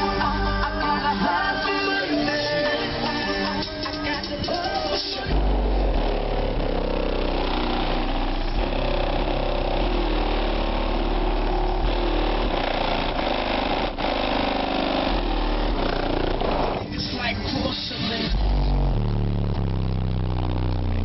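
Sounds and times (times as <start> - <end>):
car subwoofer deep bass: 0.0 - 21.0.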